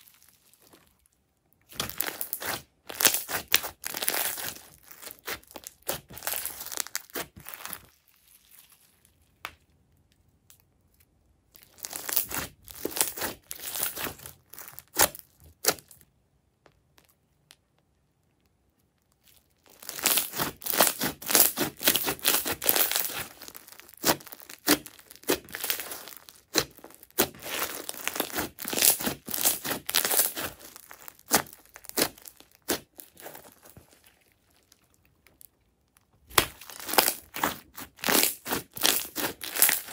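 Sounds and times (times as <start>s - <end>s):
slime crackling and squishing: 0.0s - 39.9s.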